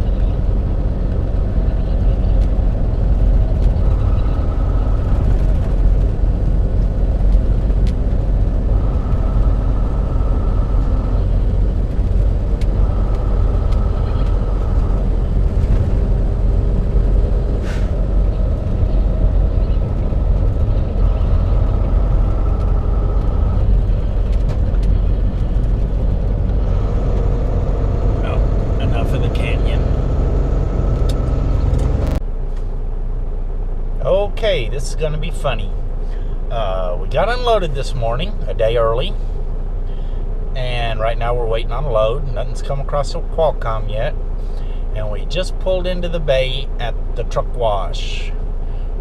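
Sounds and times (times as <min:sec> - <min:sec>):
diesel engine drone: 0:00.0 - 0:49.0
road rumble: 0:00.0 - 0:49.0.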